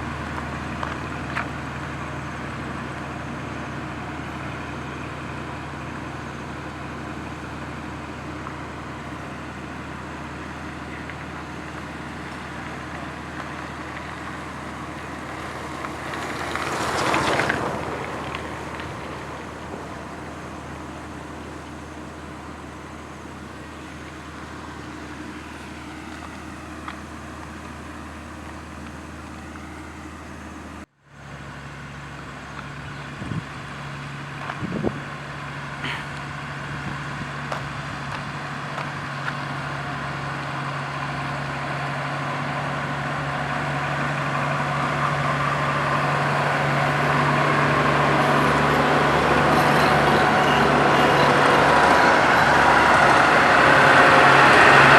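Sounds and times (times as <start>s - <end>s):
higher-pitched engine hum: 0.0s - 54.9s
road roller diesel engine: 0.0s - 54.9s.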